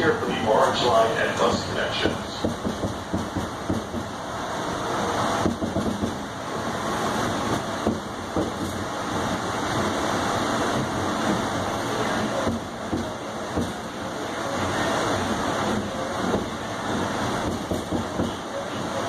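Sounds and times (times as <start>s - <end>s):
subway car rushing and rumbling: 0.0s - 19.0s.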